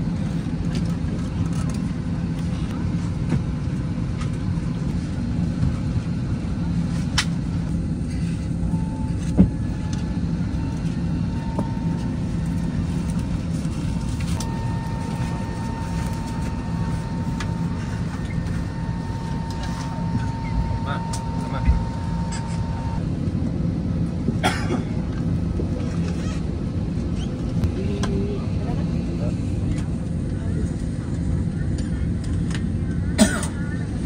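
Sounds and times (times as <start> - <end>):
aircraft cabin ventilation hum: 0.0 - 34.0.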